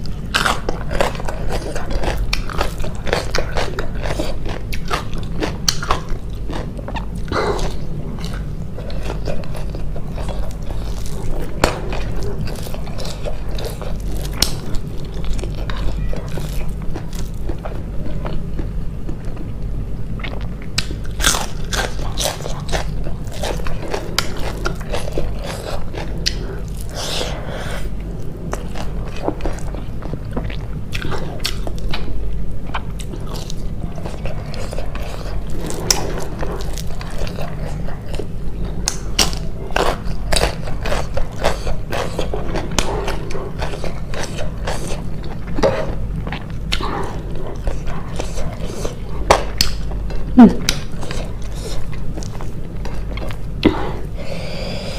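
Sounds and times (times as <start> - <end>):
chewing and crunching: 0.0 - 54.9.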